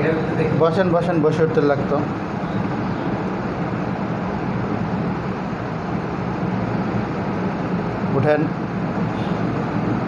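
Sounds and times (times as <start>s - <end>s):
fan hum and hiss: 0.0s - 10.0s.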